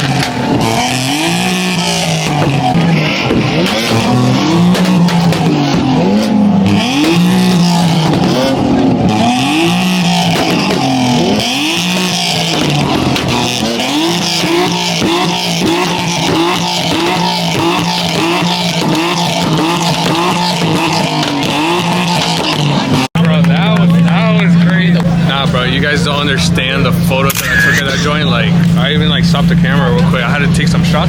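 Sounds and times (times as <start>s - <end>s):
car engine revving hard: 0.0s - 31.0s.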